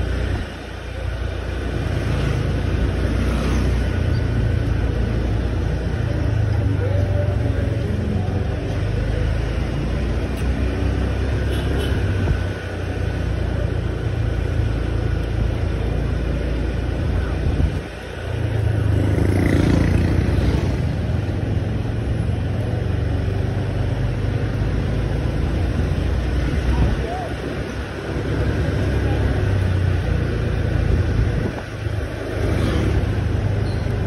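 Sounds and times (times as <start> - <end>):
road noise: 0.0 - 34.0.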